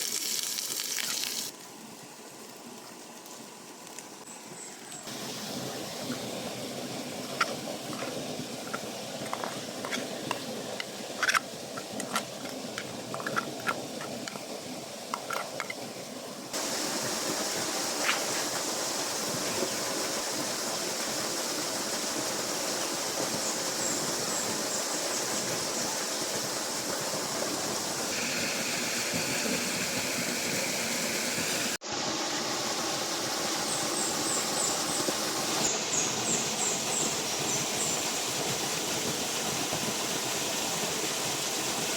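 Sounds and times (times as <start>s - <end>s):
rushing water: 0.0s - 41.9s.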